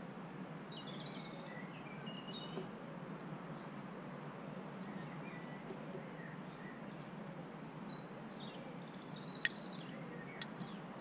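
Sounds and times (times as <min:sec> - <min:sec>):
background hiss: 0:00.0 - 0:11.0
songbirds chirping and whistling: 0:00.6 - 0:11.0.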